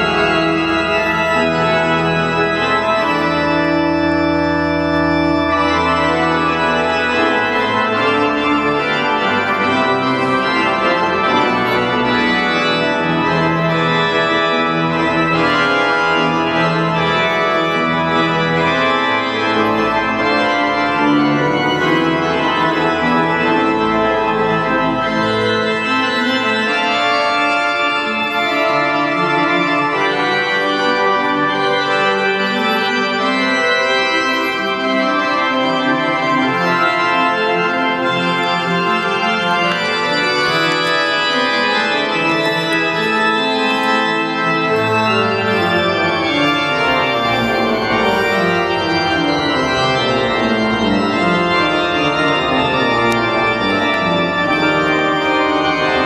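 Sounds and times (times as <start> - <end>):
deep organ bass notes: 0.0 - 56.0
pipe organ chords: 0.0 - 56.0.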